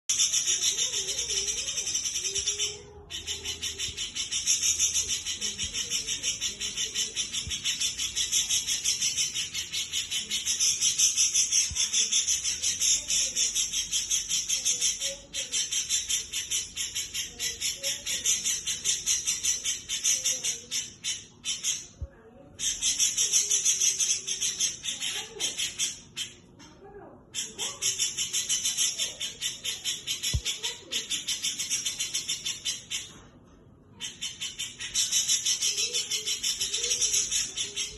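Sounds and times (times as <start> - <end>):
caged songbird chattering song: 0.0 - 26.6, 27.2 - 37.9.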